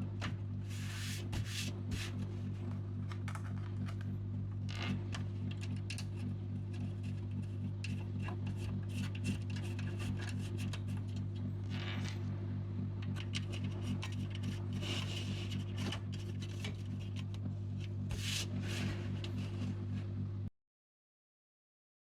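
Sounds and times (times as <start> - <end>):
low electrical hum: 0.0 - 20.5.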